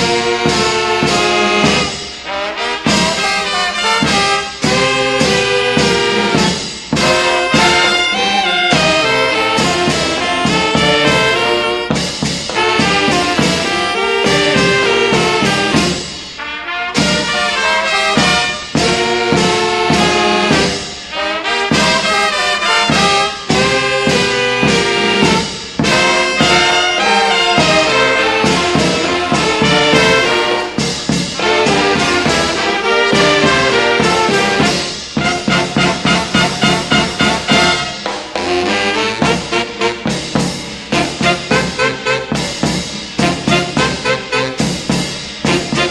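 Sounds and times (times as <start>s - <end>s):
brass band playing: 0.0s - 45.9s.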